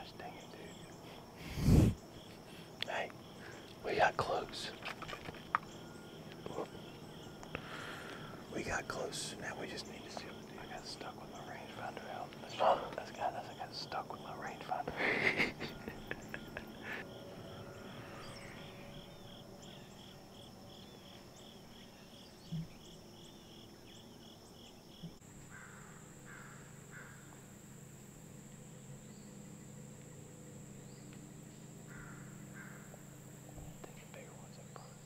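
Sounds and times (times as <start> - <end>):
crickets and insects calling: 0.0 - 35.0.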